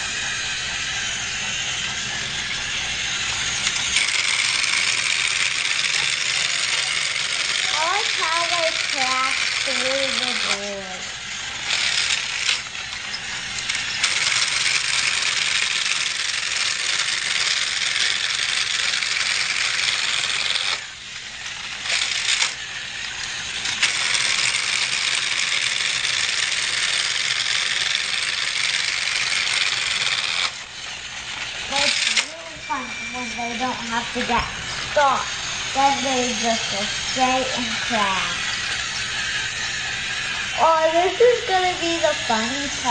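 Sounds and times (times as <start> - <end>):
toy train rattling on track: 0.0 - 42.9.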